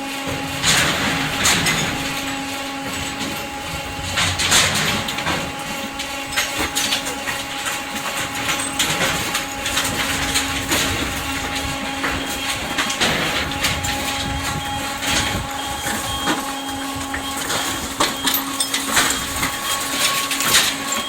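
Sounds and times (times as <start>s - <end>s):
machine hum: 0.0s - 21.0s
metal crunching and clanking: 0.0s - 21.0s.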